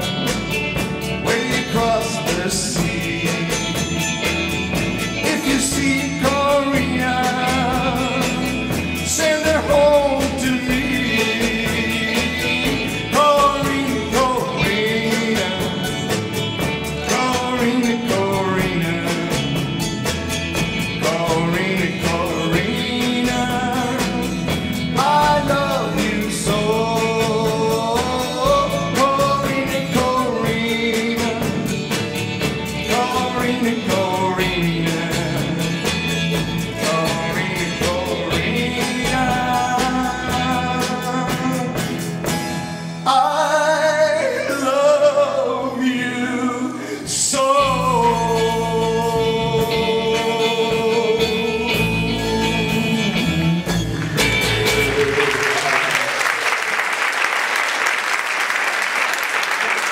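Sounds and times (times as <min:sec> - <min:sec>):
electric guitar: 0:00.0 - 0:43.1, 0:47.6 - 0:56.2
man singing: 0:00.0 - 0:56.0
acoustic guitar: 0:00.0 - 0:56.8
drums: 0:00.0 - 0:59.9.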